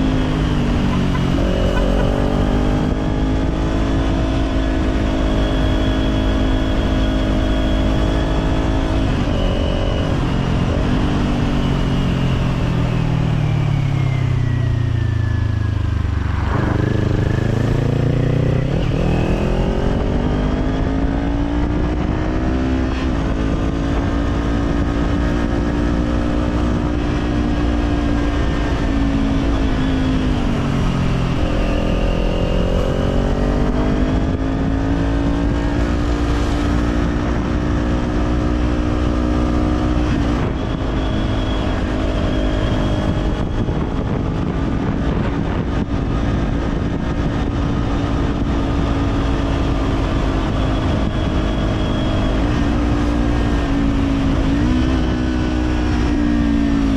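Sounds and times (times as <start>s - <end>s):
motorcycle engine cruising and revving: 0.0s - 56.9s.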